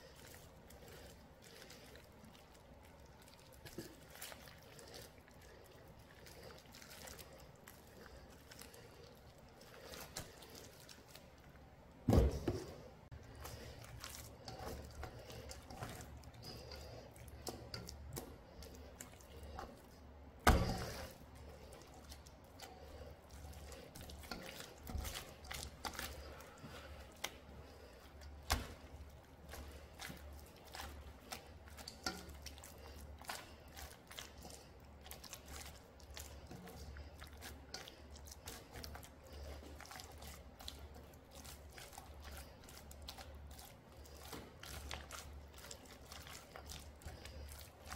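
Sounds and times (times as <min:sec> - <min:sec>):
hands squelching wet paste: 0:00.0 - 0:47.9
low steady hum: 0:00.0 - 0:47.9.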